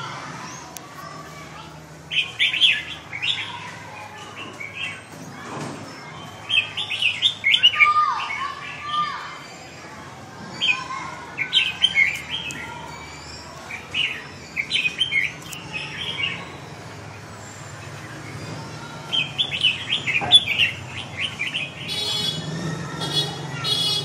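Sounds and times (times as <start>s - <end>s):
bird chirpy song: 2.0s - 24.0s.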